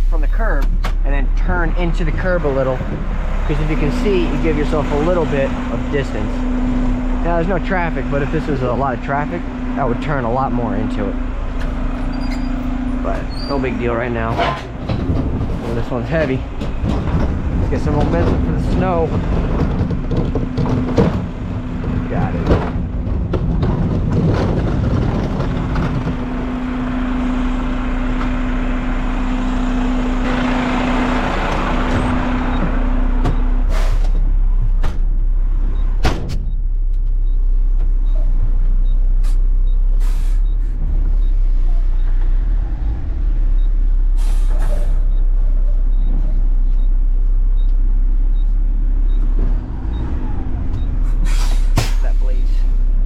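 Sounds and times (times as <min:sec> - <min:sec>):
garbage truck engine revving: 0:00.0 - 0:53.0.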